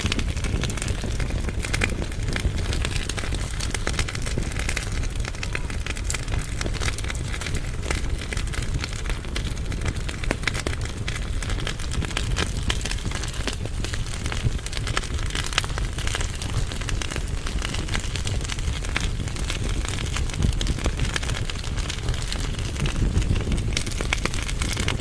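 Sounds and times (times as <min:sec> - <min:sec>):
firewood crackling and popping: 0:00.0 - 0:25.0
low rumble of flames: 0:00.0 - 0:25.0.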